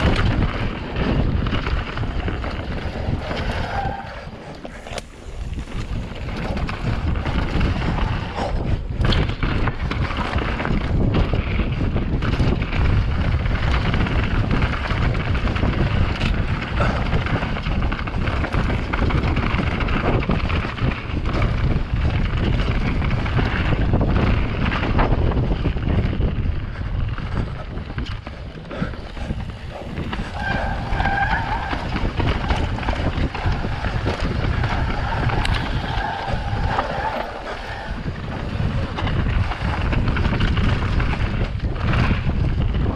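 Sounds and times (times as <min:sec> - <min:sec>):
bike rattling over bumps: 0:00.0 - 0:42.9
wind buffeting microphone: 0:00.0 - 0:42.9.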